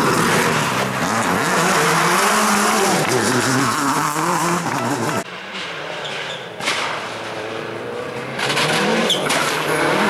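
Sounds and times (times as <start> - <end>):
rally car engine revving: 0.0 - 10.0
tyre and road noise: 0.0 - 10.0.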